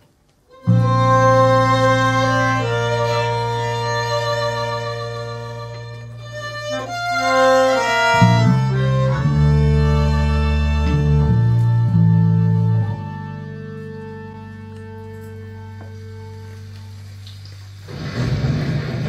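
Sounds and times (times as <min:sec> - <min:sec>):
violin melody: 0:00.5 - 0:17.4
bass guitar low notes: 0:00.5 - 0:19.0.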